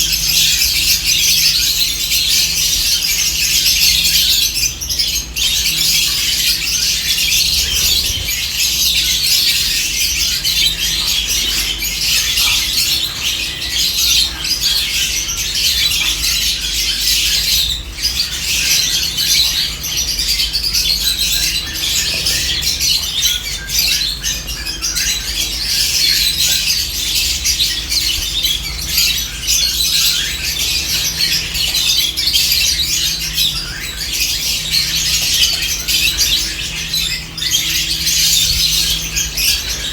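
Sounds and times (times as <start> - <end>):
flock of birds chirping and squawking: 0.0 - 39.9.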